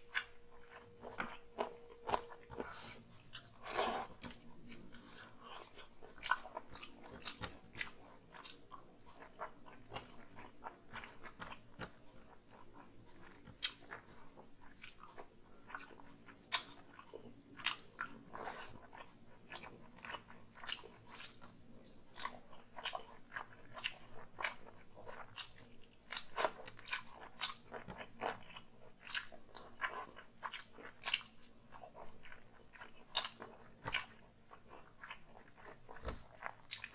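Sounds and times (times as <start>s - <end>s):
person chewing and smacking: 0.1s - 36.9s.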